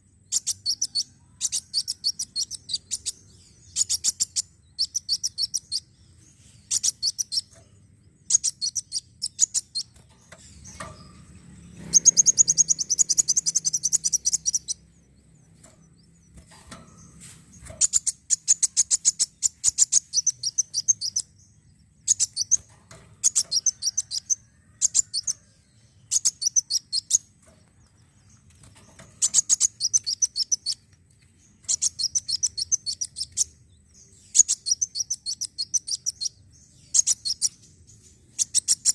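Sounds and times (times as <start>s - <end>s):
sunbird chirping trills: 0.0s - 38.9s.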